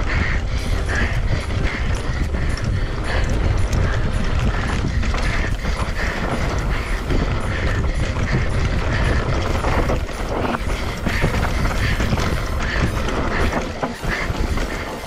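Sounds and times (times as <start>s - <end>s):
bike knocks and rattles: 0.0s - 15.0s
tyres on loose dirt: 0.0s - 15.0s
wind rumbling on microphone: 0.0s - 15.0s.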